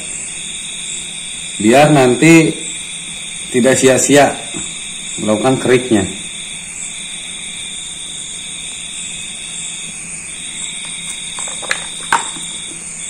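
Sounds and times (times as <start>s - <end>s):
high-pitched ringing drone: 0.0s - 13.0s.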